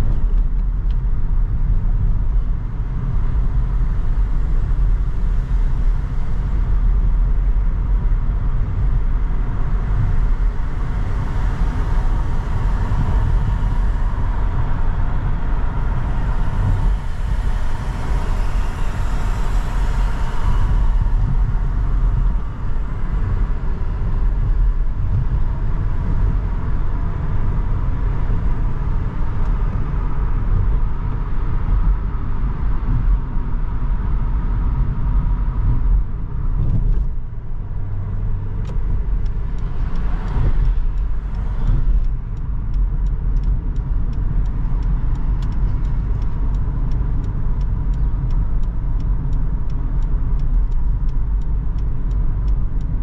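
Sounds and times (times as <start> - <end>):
car engine and tyres rumbling: 0.0 - 53.0
road and wind noise hiss: 0.0 - 53.0.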